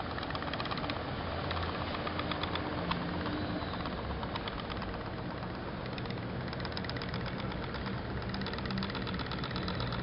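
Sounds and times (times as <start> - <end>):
pop-pop steam engine popping: 0.0 - 10.0.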